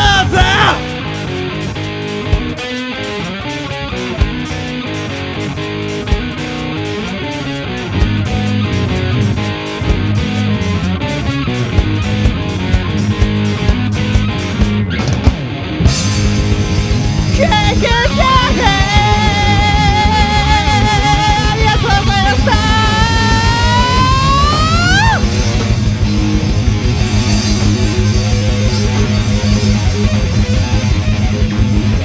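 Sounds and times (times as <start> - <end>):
bass: 0.0 - 32.0
drum beat: 0.0 - 32.0
electric guitar chords: 0.0 - 32.0.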